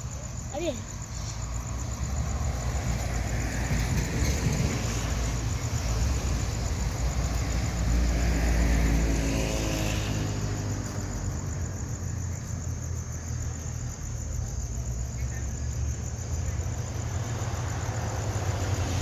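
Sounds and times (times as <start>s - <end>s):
vehicle passing by: 0.3s - 19.0s.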